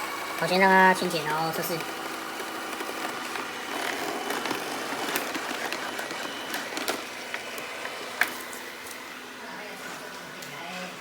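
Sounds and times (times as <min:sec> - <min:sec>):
robot vacuum whirring: 0:00.0 - 0:09.4.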